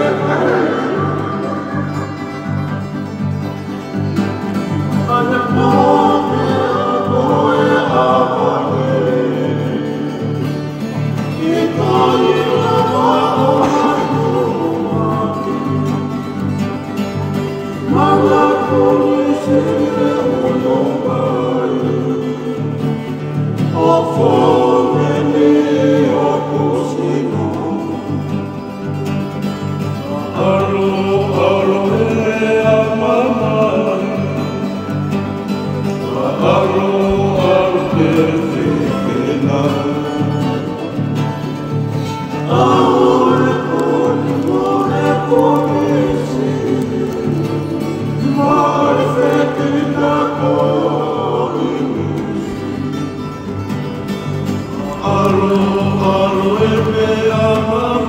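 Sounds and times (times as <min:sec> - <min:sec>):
twelve-string acoustic guitar: 0:00.0 - 0:58.0
voices singing: 0:00.0 - 0:58.0.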